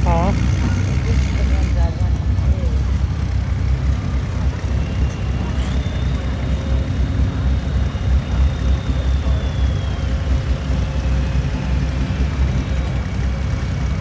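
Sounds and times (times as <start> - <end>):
tractor engine rumbling: 0.0 - 14.0.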